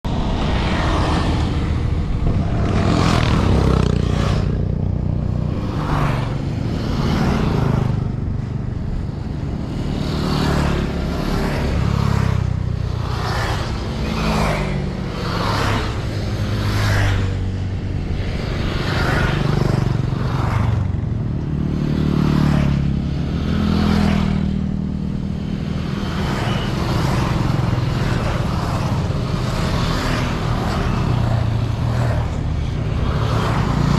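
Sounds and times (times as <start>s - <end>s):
motorcycles passing by: 0.1s - 33.9s.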